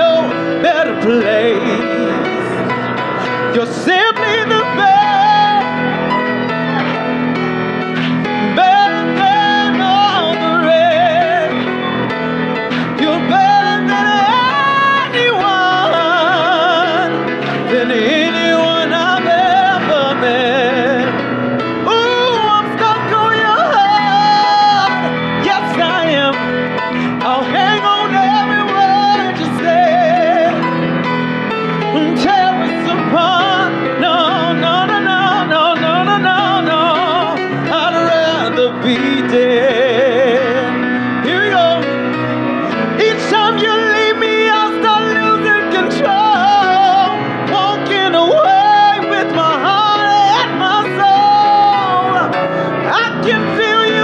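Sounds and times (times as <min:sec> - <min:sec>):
man singing with vibrato: 0:00.0 - 0:54.0
piano accompaniment: 0:00.0 - 0:54.0.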